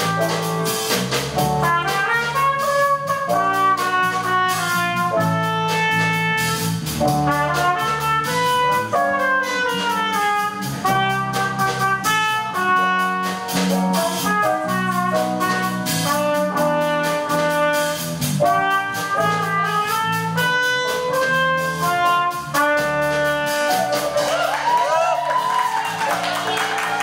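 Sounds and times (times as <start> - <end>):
jazz band playing: 0.0 - 27.0.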